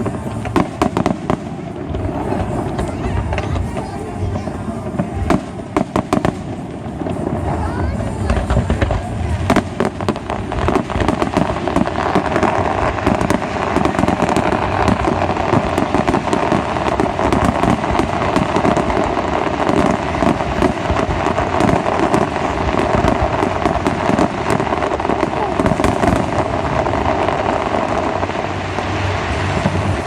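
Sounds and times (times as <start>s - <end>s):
fireworks crackling and banging: 0.0s - 30.0s.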